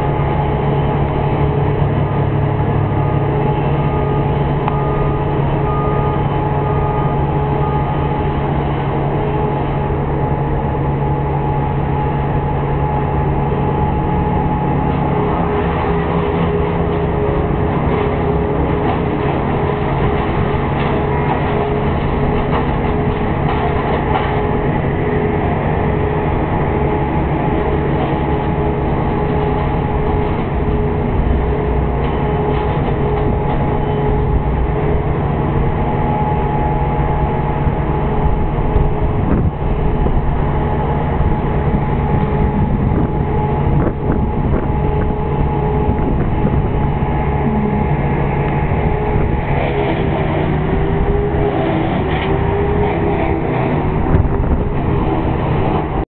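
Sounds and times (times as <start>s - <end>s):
large engine rumbling: 0.0s - 56.0s.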